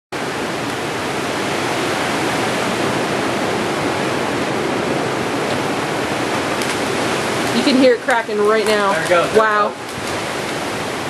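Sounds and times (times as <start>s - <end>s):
strong wind rushing: 0.2s - 11.0s.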